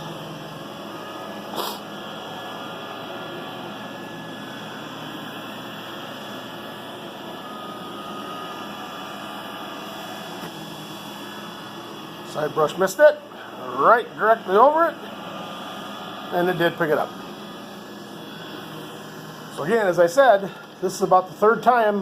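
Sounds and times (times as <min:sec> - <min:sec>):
robot vacuum whirring: 0:00.0 - 0:21.7.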